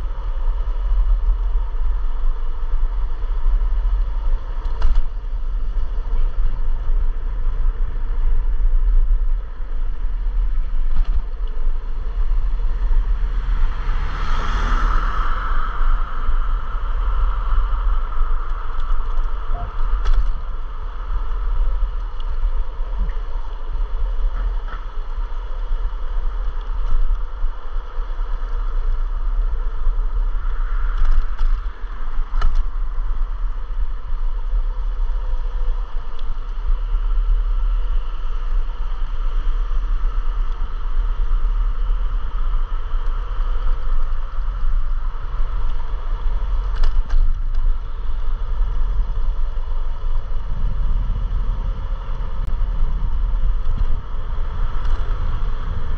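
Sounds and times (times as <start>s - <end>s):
electric scooter whine: 0.0s - 55.9s
wind rumble on microphone: 0.0s - 55.9s.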